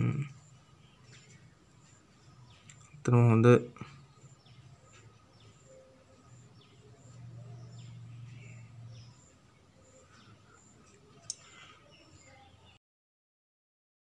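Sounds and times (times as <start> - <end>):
bird chirping: 0.0 - 12.8.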